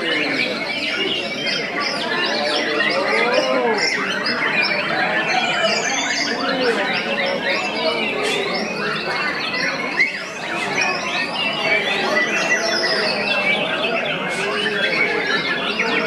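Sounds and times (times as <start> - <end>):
songbirds chorus: 0.0 - 16.0.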